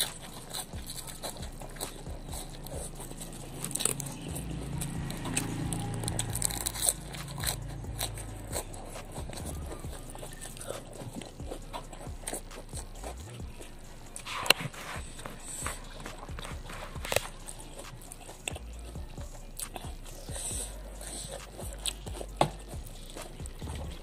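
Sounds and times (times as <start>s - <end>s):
salad greens crunching: 0.0s - 24.0s
wet mouth sounds: 0.0s - 24.0s.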